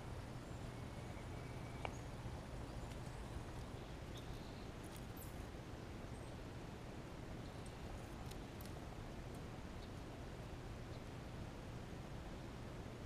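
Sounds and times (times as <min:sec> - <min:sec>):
steady hiss and low hum: 0:00.0 - 0:13.0.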